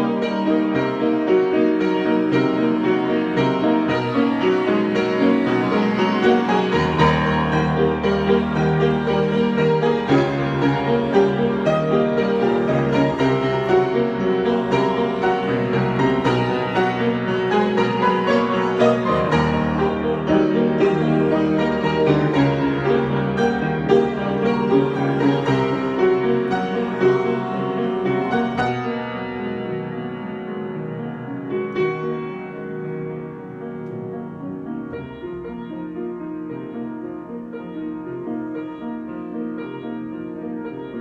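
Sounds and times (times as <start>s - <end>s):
solo piano playing: 0.0s - 41.0s.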